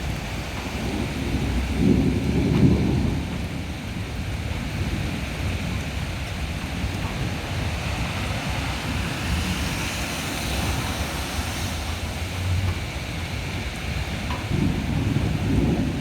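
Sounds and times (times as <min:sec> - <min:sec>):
heavy rain rushing: 0:00.0 - 0:16.0
low thunder rumble: 0:00.0 - 0:16.0
wind: 0:00.0 - 0:16.0.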